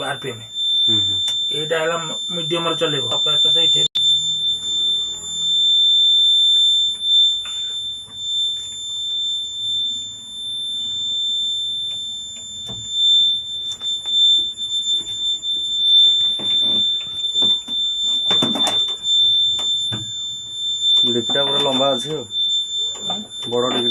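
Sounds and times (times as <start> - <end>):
high-pitched warning buzzer: 0.0 - 23.9.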